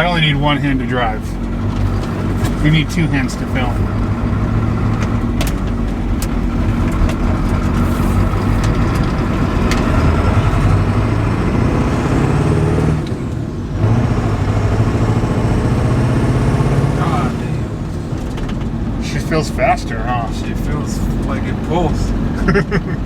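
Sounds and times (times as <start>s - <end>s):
diesel engine accelerating: 0.0s - 23.0s.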